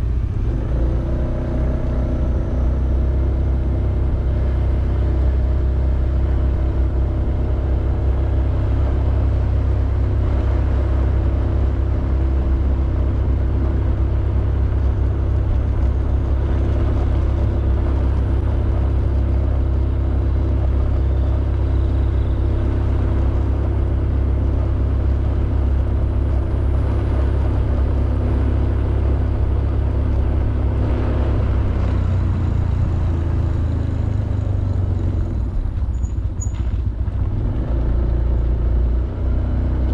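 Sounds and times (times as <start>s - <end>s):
scooter engine running: 0.0s - 37.4s.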